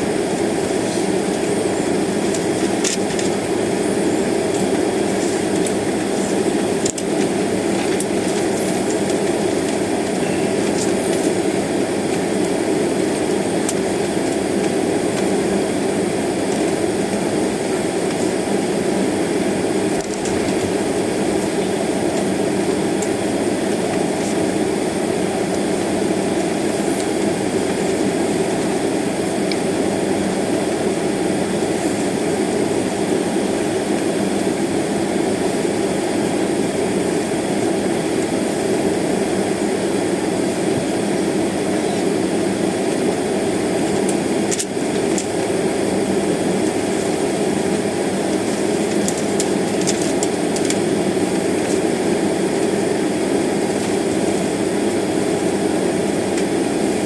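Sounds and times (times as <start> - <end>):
airliner cabin engine hum: 0.0 - 57.0.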